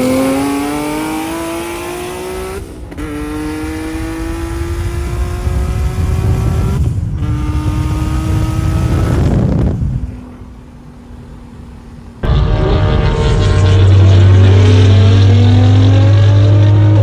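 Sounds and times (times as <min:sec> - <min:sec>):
car engine at full throttle: 0:00.0 - 0:17.0
road and wind rumble: 0:00.0 - 0:17.0.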